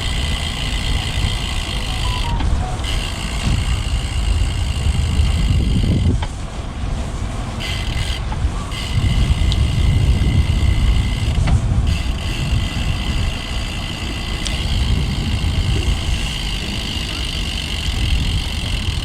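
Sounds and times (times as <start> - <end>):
road noise: 0.0 - 19.0
steady high buzz: 0.0 - 19.0
wind rumbling on microphone: 0.0 - 19.0.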